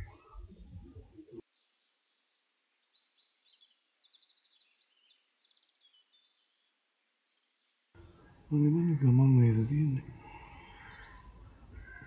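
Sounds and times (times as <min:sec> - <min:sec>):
faint birdsong: 0:00.0 - 0:12.0.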